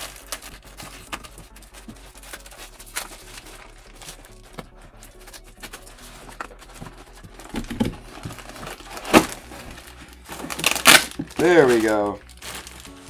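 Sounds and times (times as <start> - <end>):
cardboard scraping and rustling: 0.0 - 13.0
cardboard tearing: 0.0 - 13.0.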